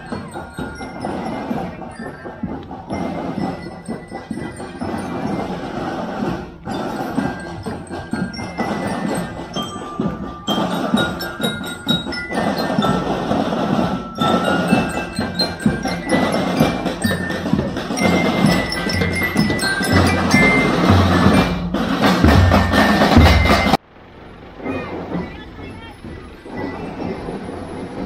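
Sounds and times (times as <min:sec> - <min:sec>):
glockenspiel tune: 0:00.0 - 0:23.8
drums and percussion: 0:00.0 - 0:28.0.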